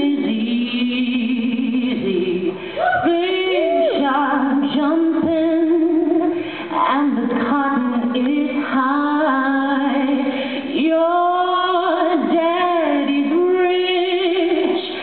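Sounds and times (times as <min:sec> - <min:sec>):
woman singing with vibrato: 0:00.0 - 0:15.0.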